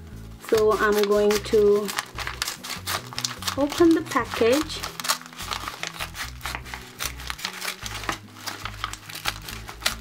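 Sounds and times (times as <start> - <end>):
soft background music: 0.0 - 10.0
package tearing and crinkling: 0.4 - 10.0.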